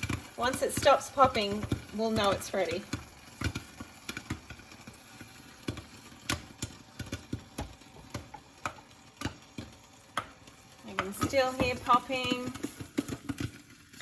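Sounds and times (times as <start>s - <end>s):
popcorn popping: 0.0s - 14.0s.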